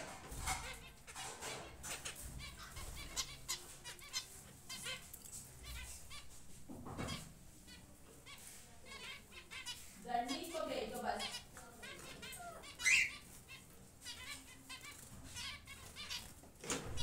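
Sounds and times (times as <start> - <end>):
cage birds chirping: 0.0 - 17.0.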